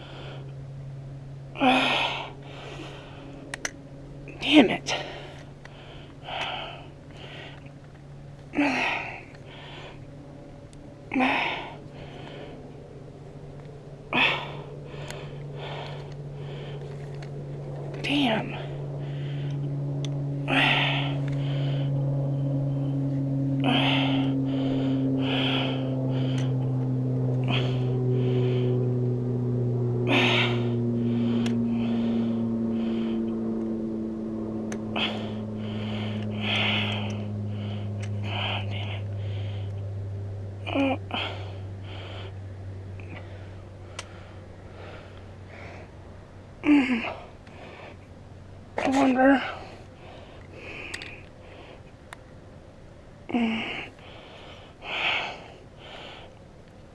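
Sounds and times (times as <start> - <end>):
low hum with falling tone: 0.0 - 56.9
person breathing heavily: 0.0 - 56.9.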